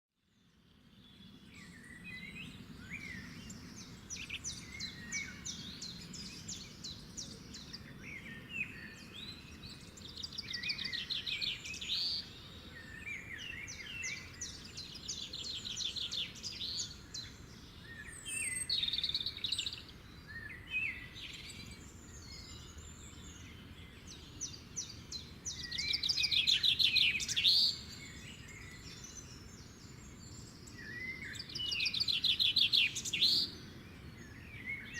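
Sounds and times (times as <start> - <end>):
low steady hiss: 0.2 - 34.9
songbirds singing: 0.2 - 34.9.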